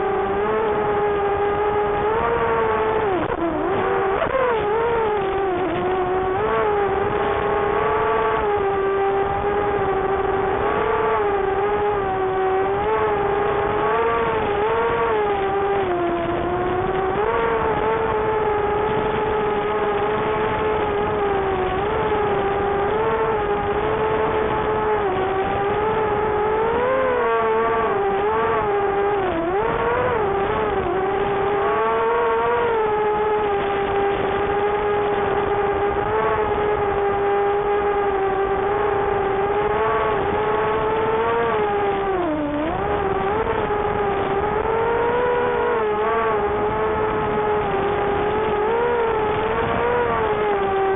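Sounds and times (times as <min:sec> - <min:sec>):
quadcopter motors whining: 0:00.0 - 0:50.9.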